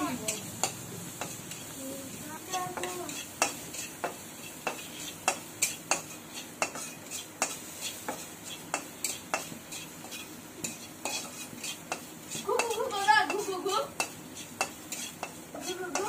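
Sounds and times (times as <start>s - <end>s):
food sizzling: 0.0s - 16.0s
metal spoon scraping a pan: 0.0s - 16.0s.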